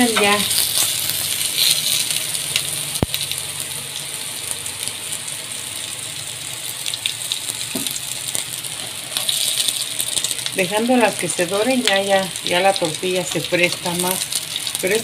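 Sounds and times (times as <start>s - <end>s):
tortillas sizzling in a skillet: 0.0s - 15.0s.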